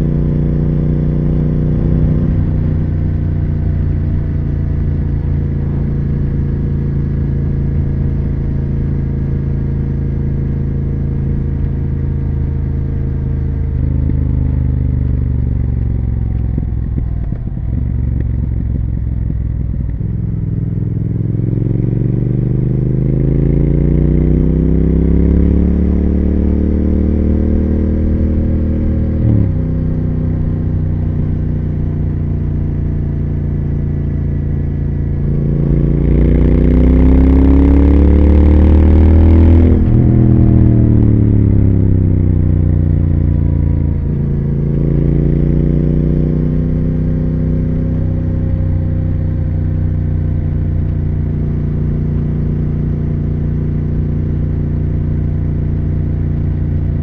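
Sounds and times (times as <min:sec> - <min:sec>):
motorcycle engine and exhaust: 0:00.0 - 0:57.0.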